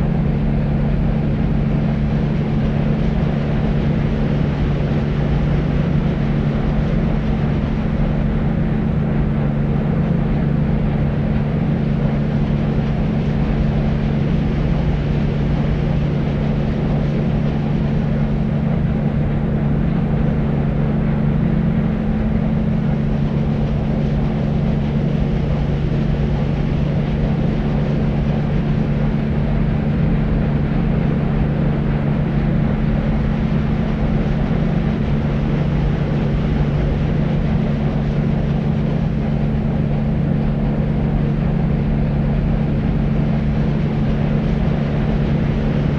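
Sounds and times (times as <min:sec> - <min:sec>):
deep white noise: 0:00.0 - 0:45.9
low steady hum: 0:00.0 - 0:45.9.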